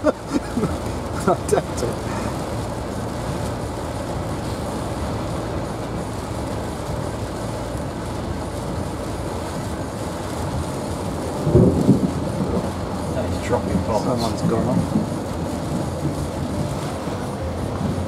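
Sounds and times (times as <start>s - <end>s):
rain on car body: 0.0s - 18.0s
tyre hiss and road noise: 0.0s - 18.0s.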